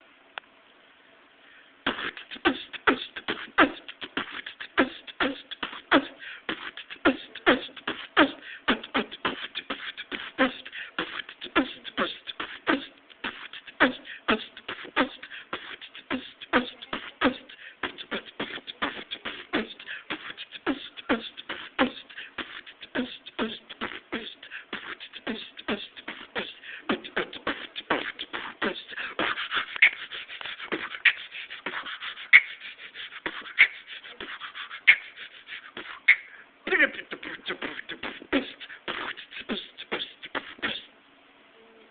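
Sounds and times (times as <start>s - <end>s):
person beatboxing: 1.8s - 40.9s.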